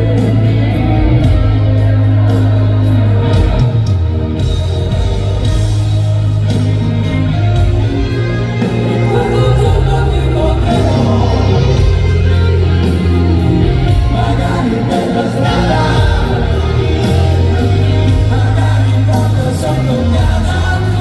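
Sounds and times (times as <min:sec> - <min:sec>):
heavy bass: 0:00.0 - 0:21.0
live rock band with singing: 0:00.0 - 0:21.0.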